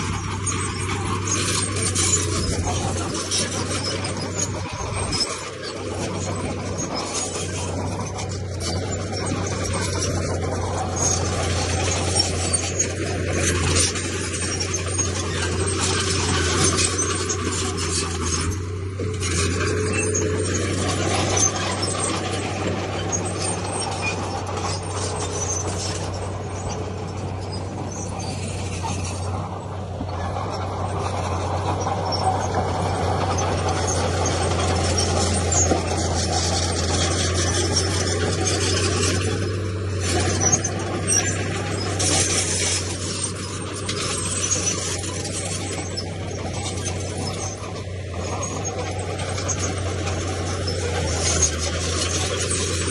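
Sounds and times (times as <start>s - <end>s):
bulldozer diesel engine drone: 0.0s - 52.9s
metallic track clatter and squeal: 0.0s - 52.9s.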